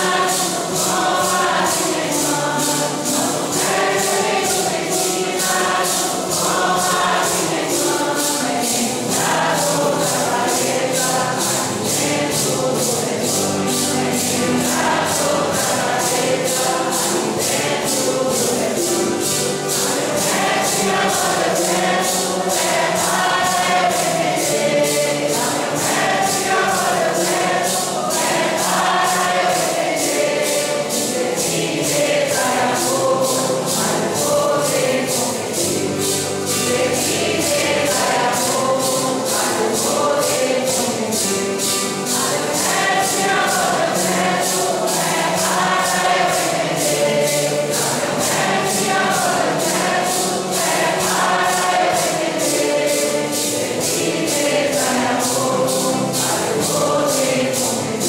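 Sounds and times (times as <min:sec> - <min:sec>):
acoustic guitar: 0:00.0 - 0:58.0
congregation singing a hymn: 0:00.0 - 0:58.0
shaken percussion beat: 0:00.0 - 0:58.0.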